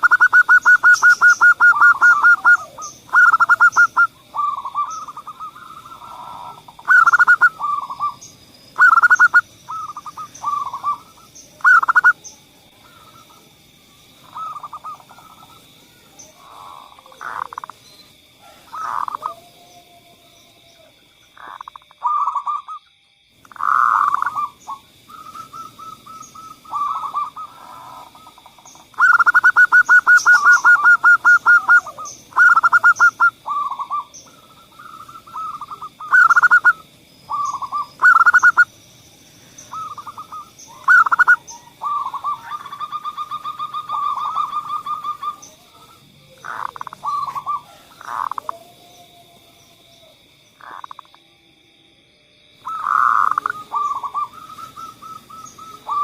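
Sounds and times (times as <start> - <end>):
doves cooing: 0.0 - 22.8, 23.5 - 38.8, 39.4 - 51.1, 52.6 - 56.0.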